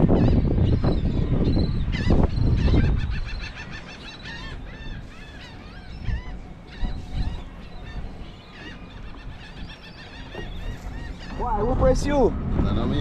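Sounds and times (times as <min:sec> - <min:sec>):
birds calling: 0:00.0 - 0:12.3.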